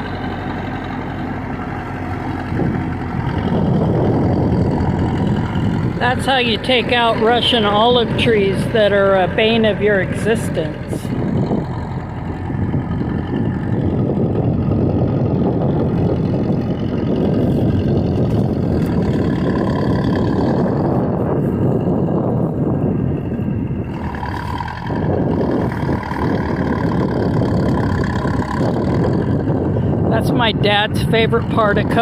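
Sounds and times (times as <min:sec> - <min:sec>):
heavy machine engine running: 0:00.0 - 0:32.0.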